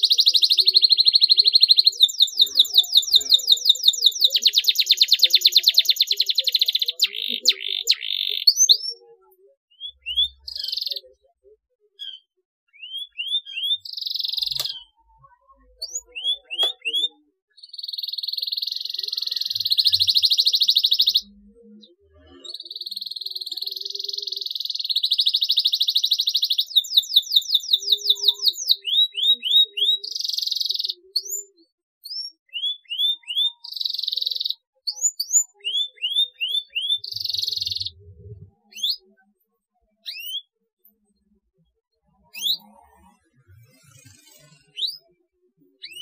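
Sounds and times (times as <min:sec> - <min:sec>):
canary singing: 0:00.0 - 0:41.0, 0:42.1 - 0:46.0.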